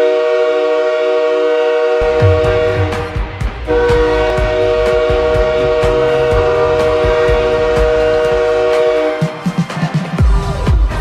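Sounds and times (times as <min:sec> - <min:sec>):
loud goal horn chord: 0:00.0 - 0:09.2
song with regular drumbeat: 0:02.0 - 0:11.0.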